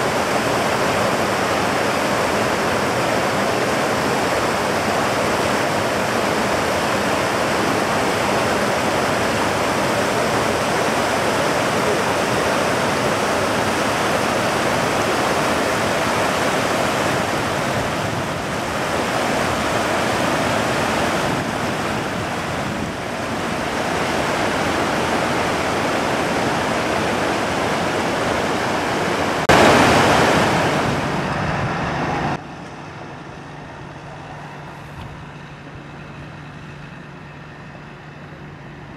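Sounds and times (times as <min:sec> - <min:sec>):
floodwater rushing over rocks: 0:00.0 - 0:31.7.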